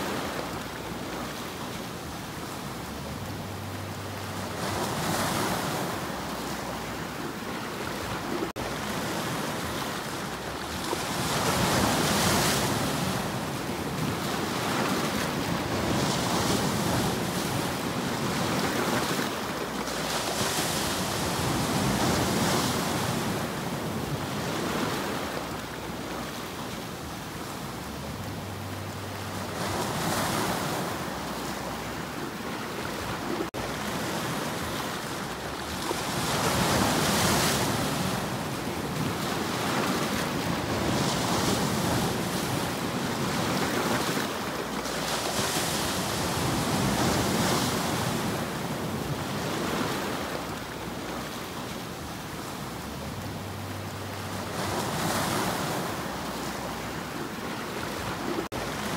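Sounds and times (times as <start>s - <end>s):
waves breaking over rocks: 0.0s - 58.9s.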